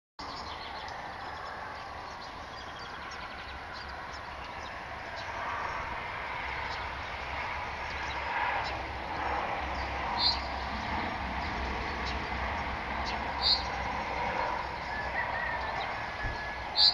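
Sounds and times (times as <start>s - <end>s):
songbirds chirping: 0.2s - 16.9s.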